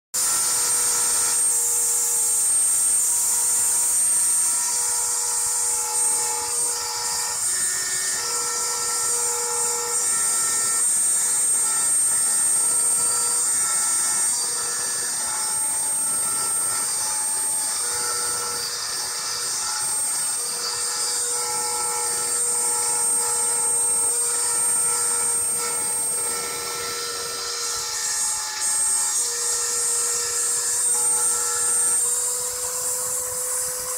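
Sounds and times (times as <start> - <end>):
rotary tool whining: 0.2 - 33.9
stepper motors humming: 0.2 - 33.9.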